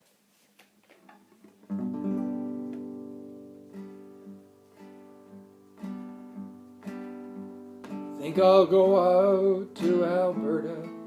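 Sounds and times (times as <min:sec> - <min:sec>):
acoustic guitar strumming: 0:01.0 - 0:11.0.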